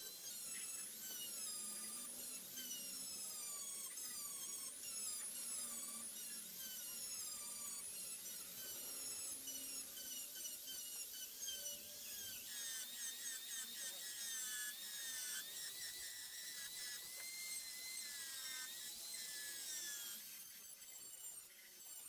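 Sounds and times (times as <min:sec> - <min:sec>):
rotary tool grinding metal: 0:00.0 - 0:22.0.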